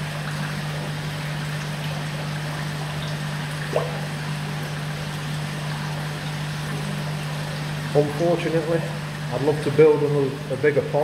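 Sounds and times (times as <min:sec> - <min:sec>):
steady low hum: 0:00.0 - 0:11.0
water trickling and splashing: 0:00.0 - 0:11.0.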